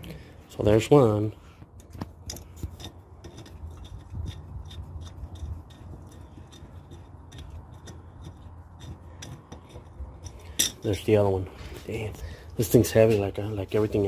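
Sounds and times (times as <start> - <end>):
metallic ticks and scrapes: 1.6 - 14.0.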